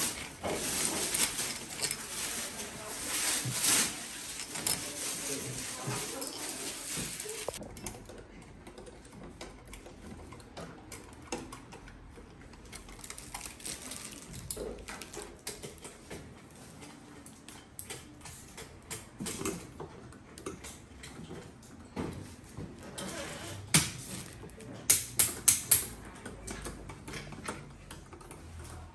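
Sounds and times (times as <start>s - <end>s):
tools clicking and tapping on plastic: 0.0s - 6.5s, 7.5s - 22.7s, 23.6s - 28.9s.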